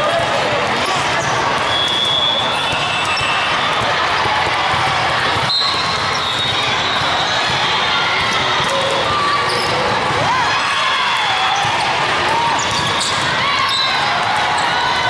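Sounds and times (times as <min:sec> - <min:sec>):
many voices and calls: 0:00.0 - 0:15.0
volleyballs struck and bouncing: 0:00.1 - 0:14.8.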